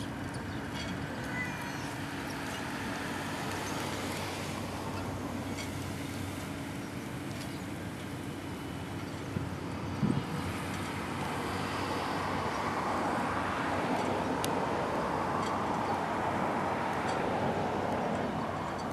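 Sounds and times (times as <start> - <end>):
rushing outdoor noise: 0.0 - 18.9.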